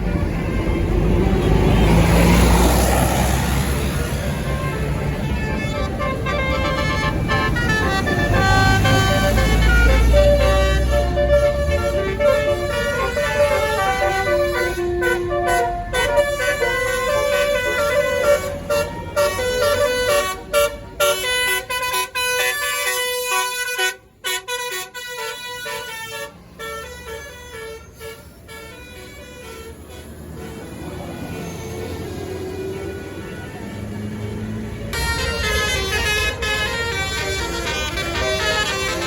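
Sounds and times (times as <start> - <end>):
bus musical horn playing a tune: 0.0 - 34.2, 34.9 - 39.0
bus engine rumbling: 0.0 - 39.0.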